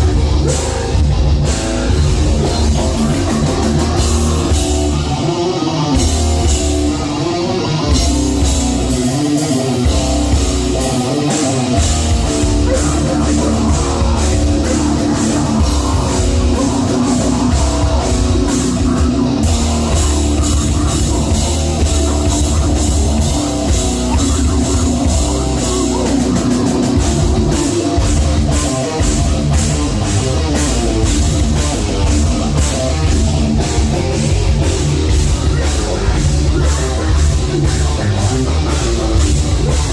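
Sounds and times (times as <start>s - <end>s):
distorted electric guitars: 0.0s - 39.9s
drum kit: 0.0s - 39.9s
heavy metal band playing live: 0.0s - 39.9s.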